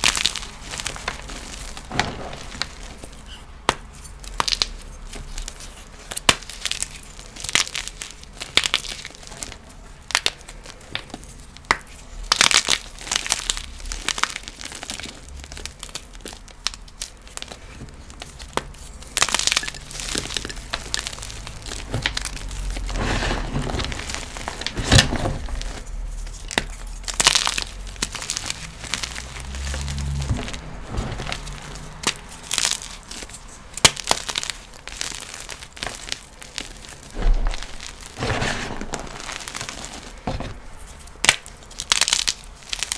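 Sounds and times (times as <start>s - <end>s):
chalk blocks crunching: 0.0s - 42.9s.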